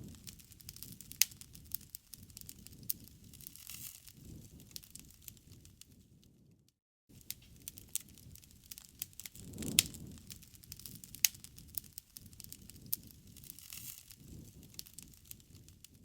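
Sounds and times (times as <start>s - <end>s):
campfire crackling: 0.0s - 6.5s, 7.1s - 16.0s
rumble of flames: 0.0s - 16.0s.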